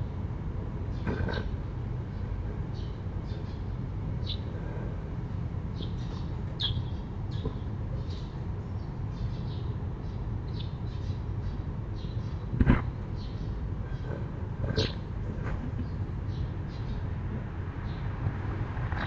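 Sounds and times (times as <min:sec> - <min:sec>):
low background rumble: 0:00.0 - 0:19.0
small birds chirping and squawking: 0:00.9 - 0:17.2.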